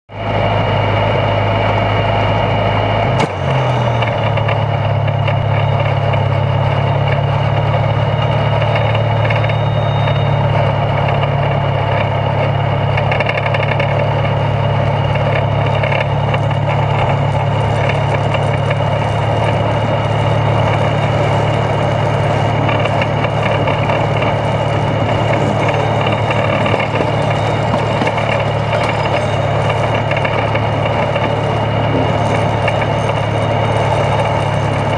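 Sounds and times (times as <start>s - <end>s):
locomotive engine running: 0.1s - 34.9s.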